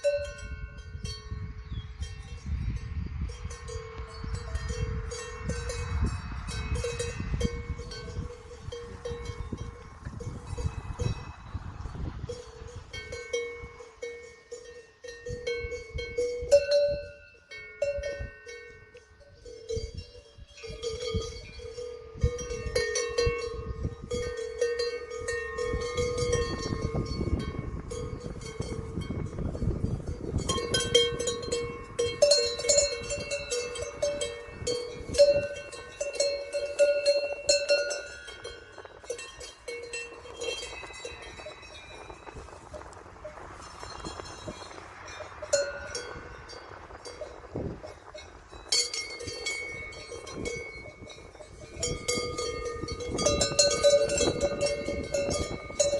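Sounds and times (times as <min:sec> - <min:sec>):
livestock bells clanking: 0:00.0 - 0:55.9.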